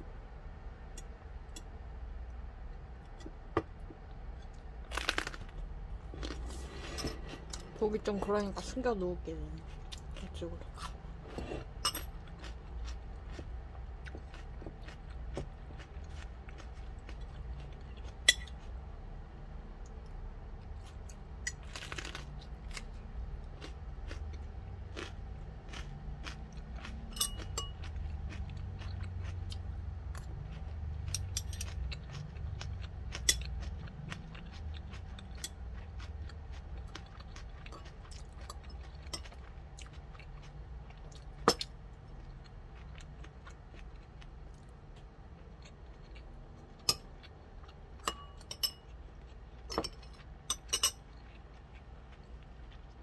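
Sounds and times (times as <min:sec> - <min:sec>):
person chewing crunchy food: 0:04.0 - 0:07.8, 0:09.6 - 0:18.9, 0:20.6 - 0:53.0.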